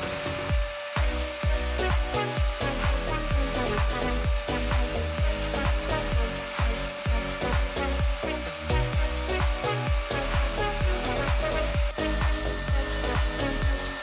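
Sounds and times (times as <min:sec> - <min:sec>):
background music with steady beat: 0:00.0 - 0:14.0
milling machine cutting wood: 0:00.0 - 0:14.0.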